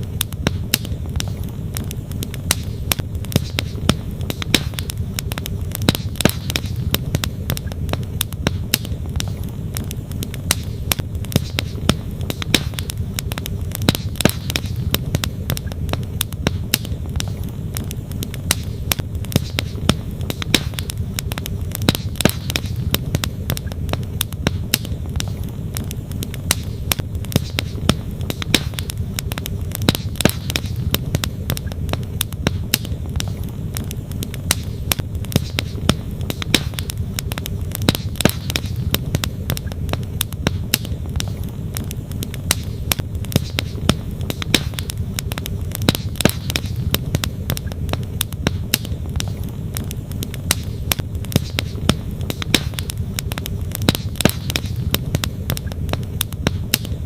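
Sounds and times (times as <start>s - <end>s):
campfire wood crackling: 0.0s - 57.0s.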